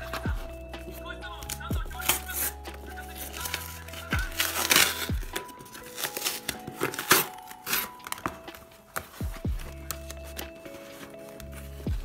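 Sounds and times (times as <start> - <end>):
background music: 0.0 - 12.0
cardboard rustling and scraping: 0.0 - 12.0.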